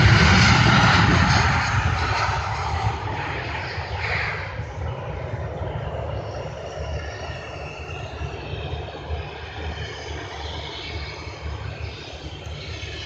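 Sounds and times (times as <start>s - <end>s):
jet engine whine: 0.0s - 13.0s.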